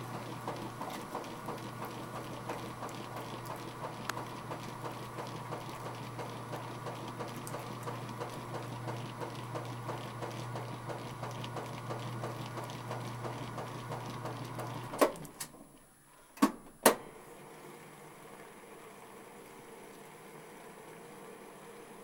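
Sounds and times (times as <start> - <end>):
washing machine motor hum: 0.0 - 22.0.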